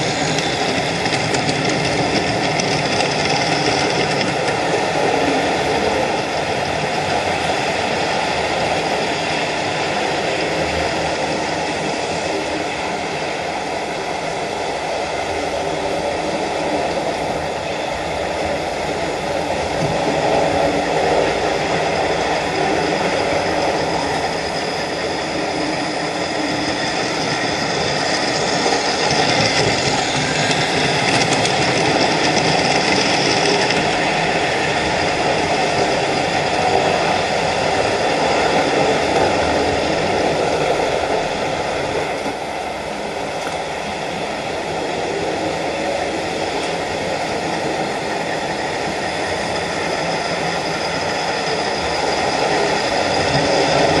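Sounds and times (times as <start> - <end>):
wheels on rail: 0.0 - 54.0.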